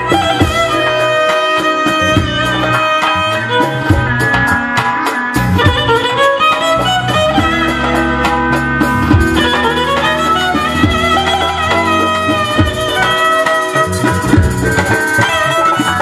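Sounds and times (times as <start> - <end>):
live band music: 0.0 - 16.0
steady drum beat: 0.0 - 16.0.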